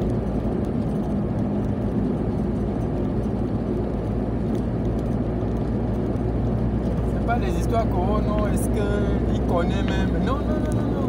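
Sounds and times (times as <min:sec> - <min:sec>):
car engine rumble from inside cabin: 0:00.0 - 0:11.0
road noise: 0:00.0 - 0:11.0.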